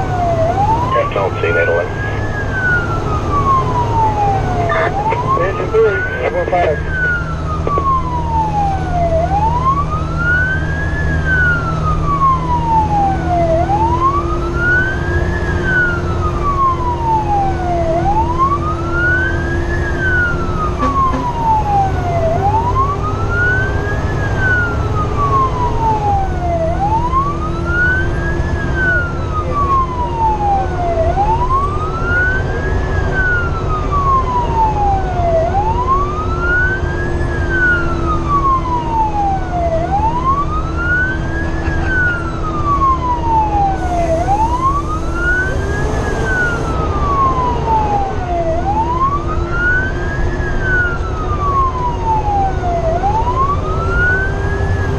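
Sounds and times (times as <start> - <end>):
fire truck siren wailing: 0.0 - 54.9
road noise: 0.0 - 54.9
truck engine rumble: 0.0 - 54.9.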